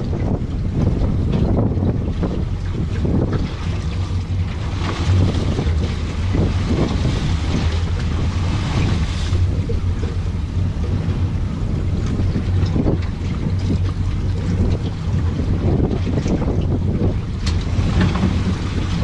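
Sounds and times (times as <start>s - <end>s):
sea washing around boat: 0.0s - 19.0s
wind buffeting microphone: 0.0s - 19.0s.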